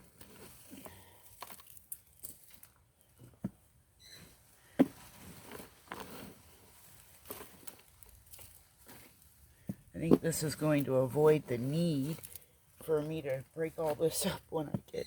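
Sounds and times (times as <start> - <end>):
rustles and knocks of soil: 0.0 - 15.0.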